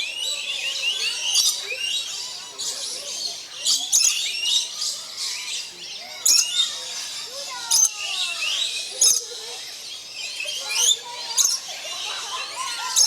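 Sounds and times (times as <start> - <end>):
flock of parrots chattering: 0.6 - 13.0.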